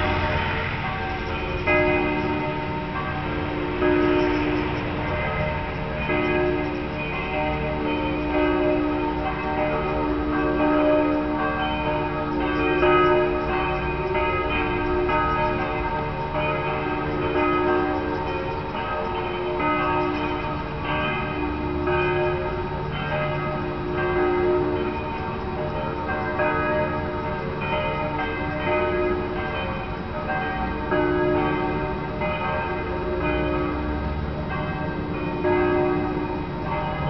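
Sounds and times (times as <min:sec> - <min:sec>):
church bells pealing: 0:00.0 - 0:37.0.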